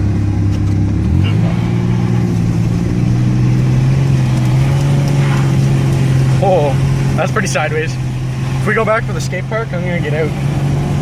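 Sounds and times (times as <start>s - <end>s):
pickup truck engine droning: 0.0s - 11.0s.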